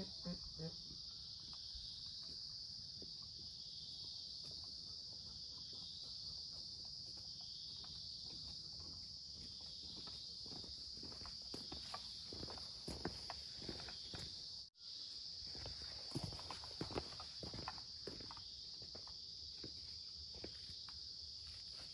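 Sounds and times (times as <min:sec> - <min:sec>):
insects chorus: 0:00.0 - 0:21.9.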